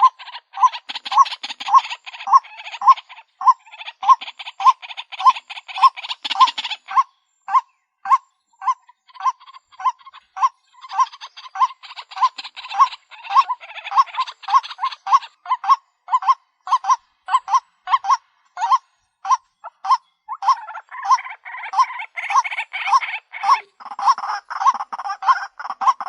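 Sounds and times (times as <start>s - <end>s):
waterhen call notes: 0.0s - 26.0s.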